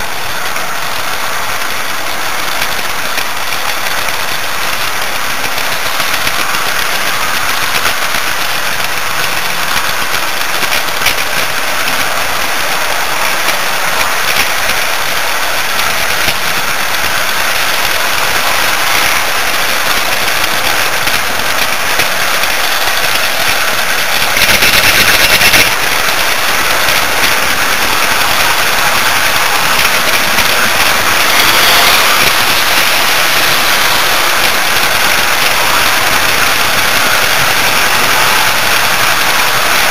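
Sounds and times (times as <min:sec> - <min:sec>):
model train whirring on rails: 0:00.0 - 0:39.9.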